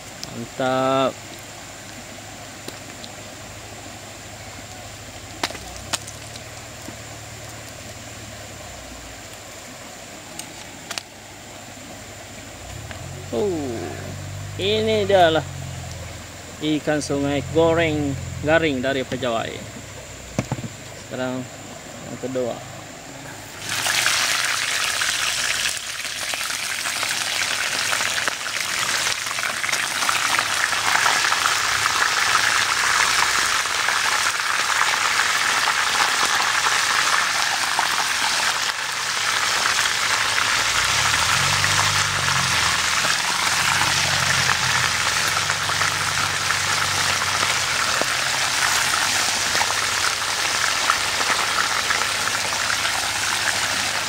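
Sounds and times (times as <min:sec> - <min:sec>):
fish sizzling in hot oil: 0:00.0 - 0:17.0, 0:23.5 - 0:54.0.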